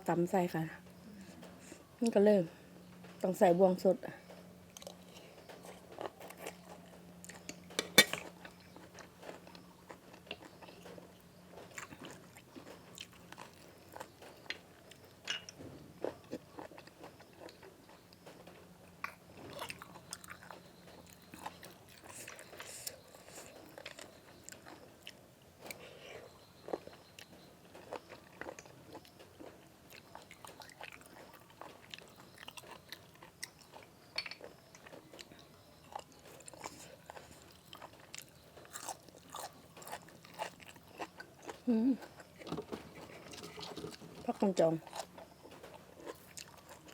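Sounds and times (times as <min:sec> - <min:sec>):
faint low hum: 0:00.0 - 0:46.9
person chewing crunchy food: 0:04.7 - 0:46.9.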